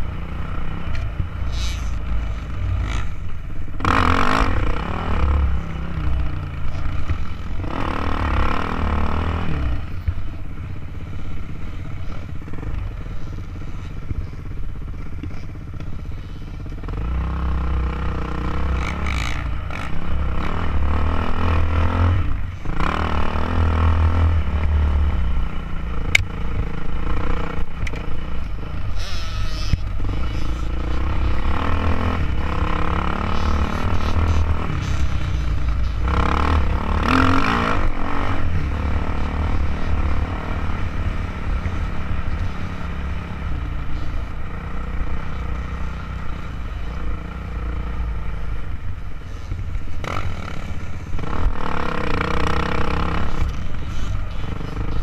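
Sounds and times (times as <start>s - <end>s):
dirt bike engine revving: 0.0s - 10.2s, 16.8s - 48.4s, 50.0s - 55.0s.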